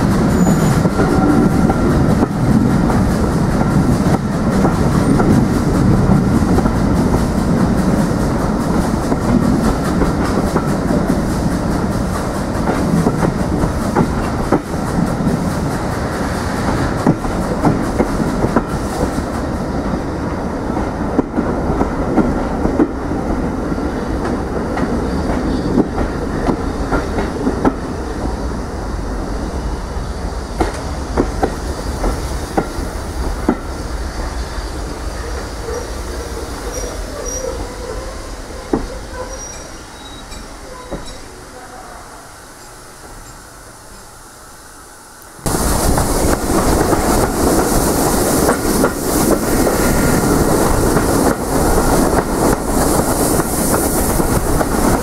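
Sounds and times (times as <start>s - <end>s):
train rumbling on track: 0.0s - 55.0s.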